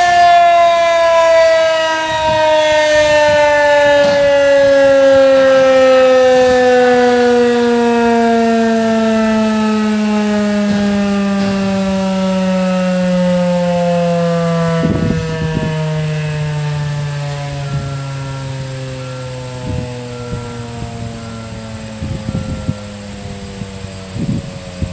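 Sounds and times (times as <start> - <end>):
warning siren winding down: 0.0 - 24.9.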